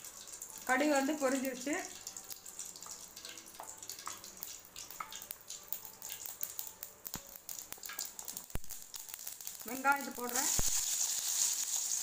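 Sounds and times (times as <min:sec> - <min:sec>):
seeds popping in hot oil: 0:00.0 - 0:12.0
soft steady sizzle: 0:00.0 - 0:12.0.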